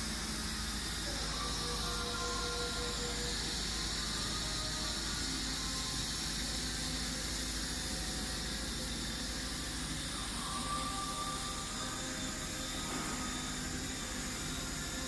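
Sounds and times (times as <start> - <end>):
milling machine hiss and hum: 0.0 - 15.0
thin machine whine: 0.0 - 15.0.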